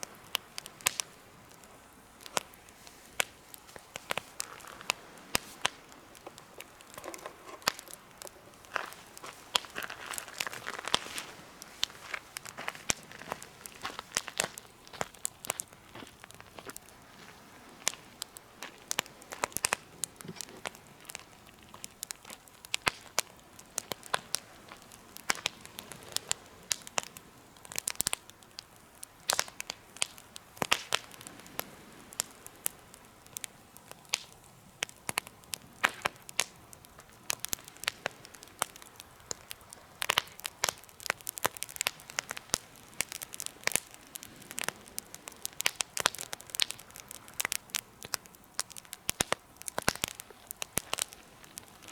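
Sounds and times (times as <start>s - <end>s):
campfire crackling and popping: 0.0s - 51.9s
faint steady hiss: 0.0s - 51.9s.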